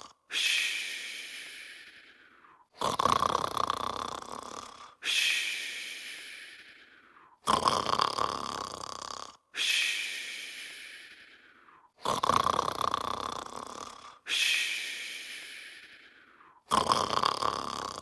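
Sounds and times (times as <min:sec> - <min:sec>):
snoring: 0:00.0 - 0:18.0.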